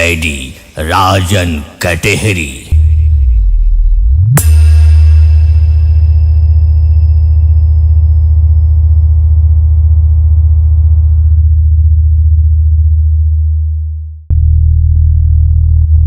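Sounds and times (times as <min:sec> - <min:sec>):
deep synthesized bass notes: 0:02.6 - 0:16.0.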